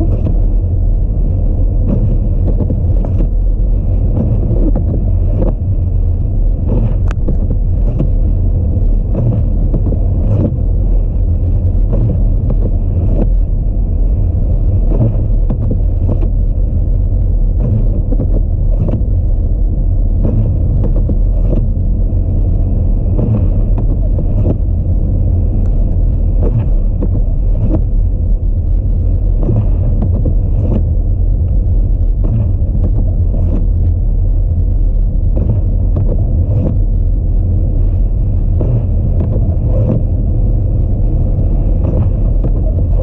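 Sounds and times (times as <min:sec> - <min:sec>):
car driving on snowy road: 0:00.0 - 0:43.0.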